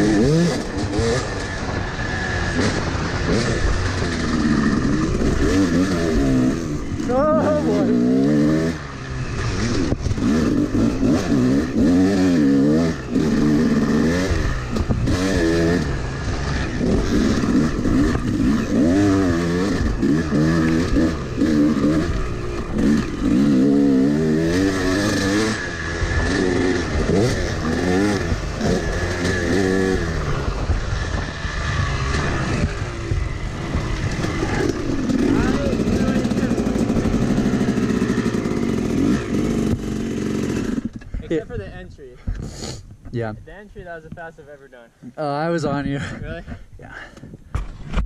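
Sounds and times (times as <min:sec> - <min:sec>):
dirt bike engine revving: 0:00.0 - 0:41.8.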